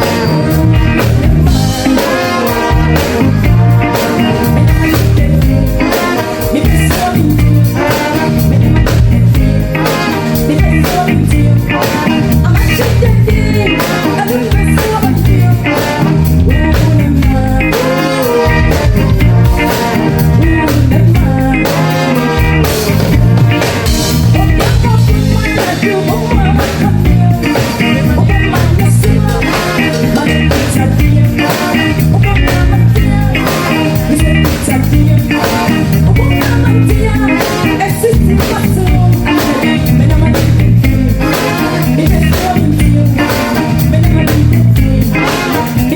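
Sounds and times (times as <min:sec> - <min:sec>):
bass: 0:00.0 - 0:45.9
drums: 0:00.0 - 0:45.9
electric guitar: 0:00.0 - 0:45.9.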